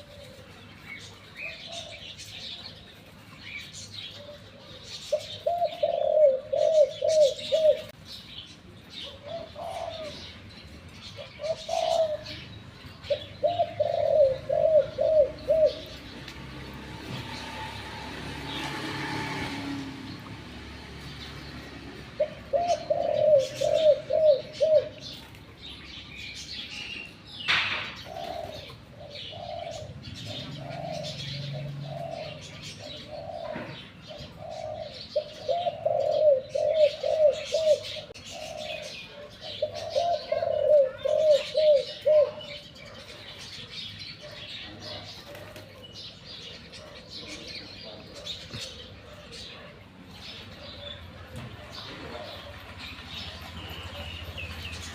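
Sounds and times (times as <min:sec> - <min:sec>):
dove cooing: 0:00.0 - 0:08.0, 0:08.9 - 0:20.2, 0:21.0 - 0:54.9
small birds chirping: 0:00.0 - 0:54.9.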